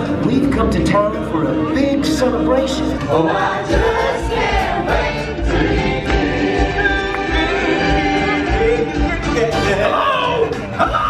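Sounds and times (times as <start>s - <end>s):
choir singing: 1.4s - 10.8s.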